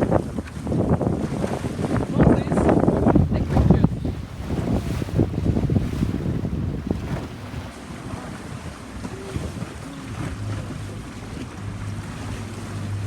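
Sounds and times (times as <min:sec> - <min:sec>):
boat motor humming: 0:00.0 - 0:13.0
water washing against hull: 0:00.0 - 0:13.0
wind buffeting microphone: 0:00.0 - 0:13.0.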